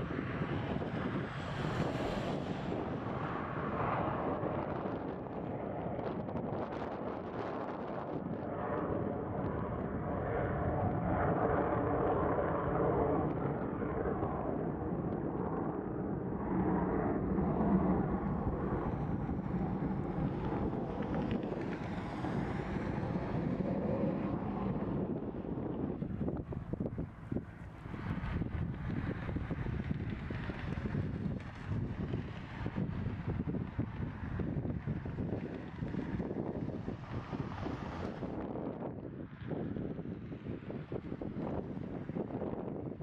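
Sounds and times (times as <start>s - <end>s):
jet engines at takeoff power: 0.0s - 43.0s
wind buffeting microphone: 0.0s - 43.0s.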